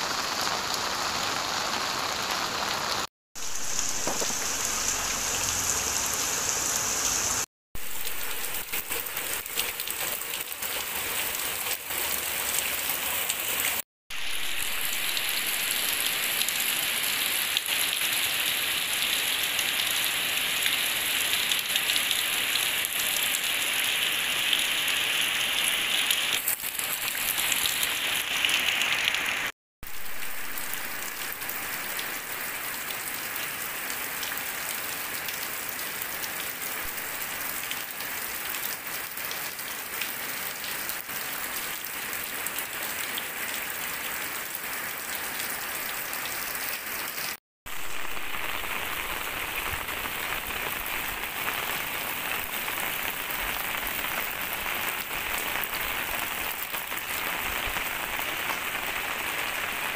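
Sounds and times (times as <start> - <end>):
heavy rain on concrete: 0.0 - 59.9
raindrops pattering into puddle: 0.1 - 59.9.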